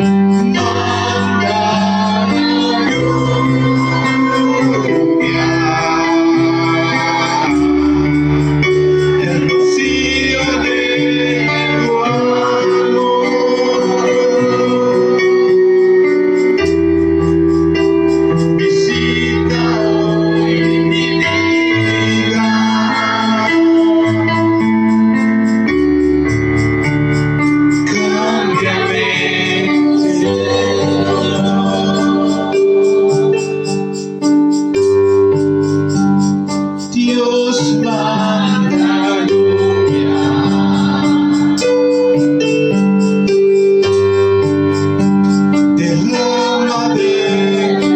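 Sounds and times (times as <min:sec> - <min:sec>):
electric keyboard chords: 0:00.0 - 0:47.9.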